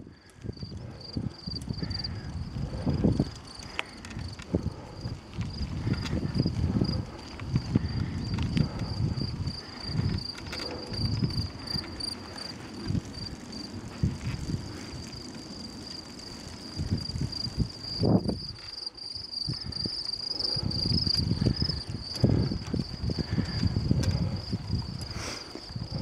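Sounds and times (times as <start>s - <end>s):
crickets chirping: 0.0s - 26.0s
wind rumble on microphone: 0.0s - 26.0s.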